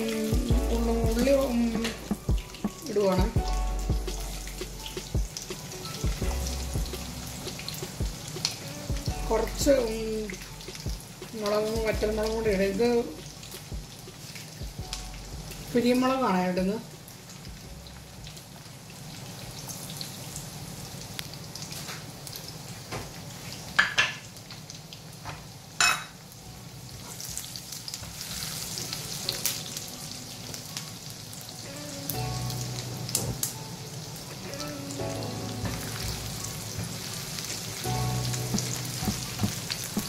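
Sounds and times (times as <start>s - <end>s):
shallots sizzling in oil: 0.0s - 40.0s.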